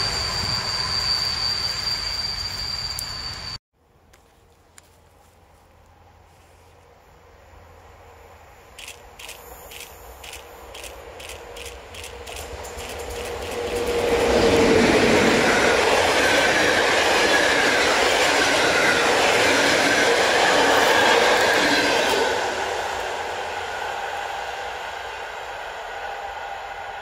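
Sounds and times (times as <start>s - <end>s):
train passing at speed: 0.0s - 3.6s, 7.2s - 27.0s.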